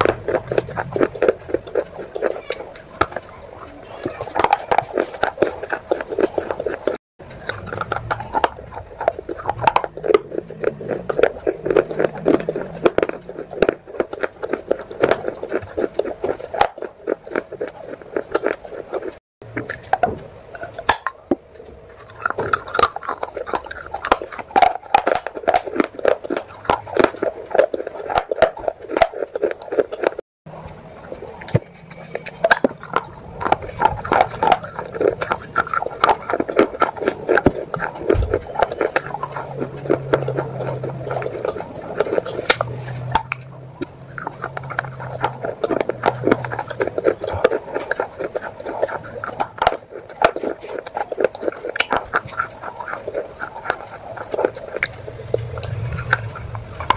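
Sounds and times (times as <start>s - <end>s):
crunching of clay being chewed: 0.0s - 56.9s.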